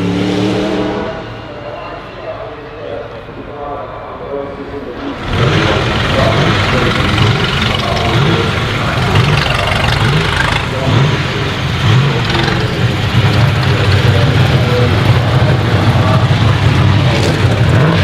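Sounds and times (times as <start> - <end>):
race car engine revving: 0.0 - 1.5, 5.0 - 18.0.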